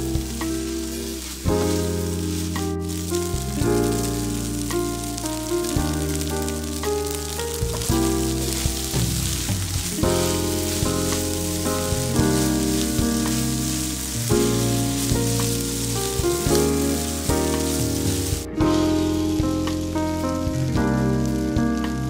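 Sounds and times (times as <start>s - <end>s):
spatula stir-frying: 0.0s - 20.5s
background music held notes: 0.0s - 22.0s
rice sizzling in a wok: 0.0s - 22.0s.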